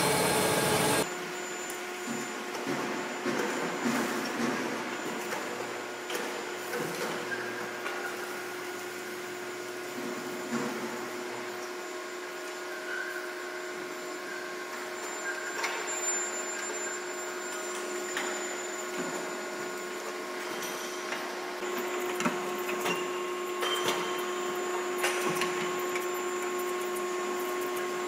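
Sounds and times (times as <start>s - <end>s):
machinery humming and whining: 0.0s - 28.0s.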